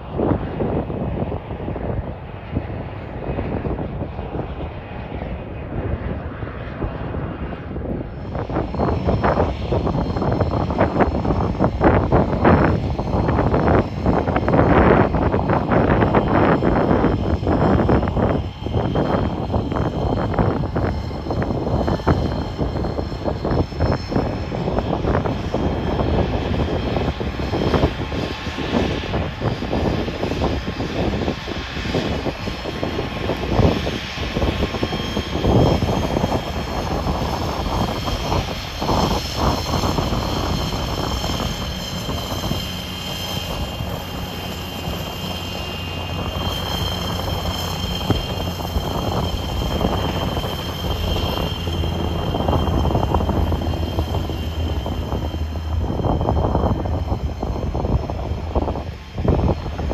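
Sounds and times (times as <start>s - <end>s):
jet engines whining: 0.0s - 59.9s
wind rumble on microphone: 0.0s - 59.9s.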